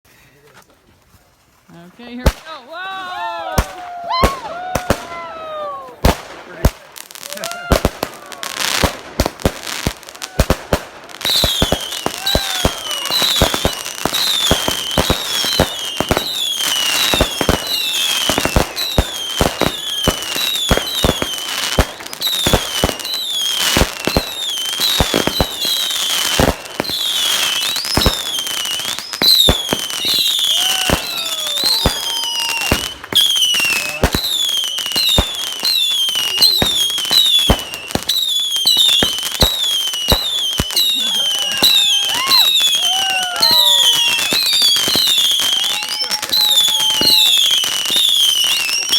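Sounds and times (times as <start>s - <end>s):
fireworks bangs and cracks: 2.1s - 48.9s
fireworks whistling: 3.2s - 48.9s.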